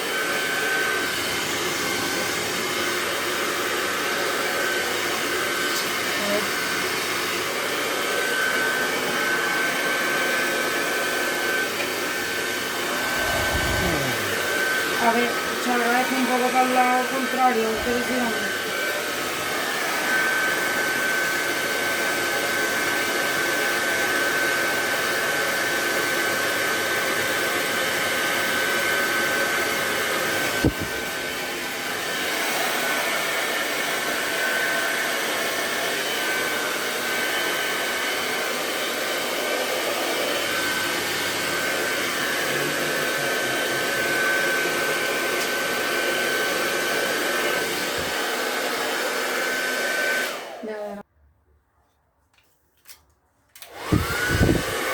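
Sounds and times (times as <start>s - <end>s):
hair dryer running: 0.0s - 51.0s, 53.5s - 54.9s.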